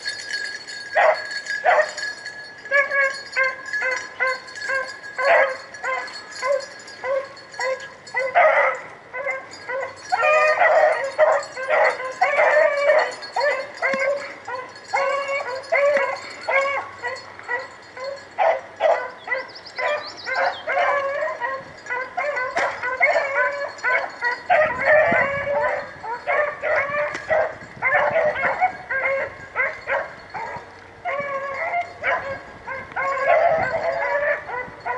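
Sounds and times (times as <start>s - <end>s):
hounds baying: 0.0s - 34.9s.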